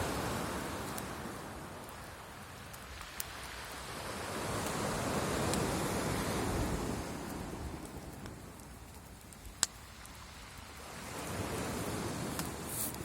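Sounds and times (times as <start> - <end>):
bonfire wood crackling: 0.0 - 13.0
fire rushing noise: 0.0 - 13.0
sharp snaps of burning wood: 0.0 - 13.0.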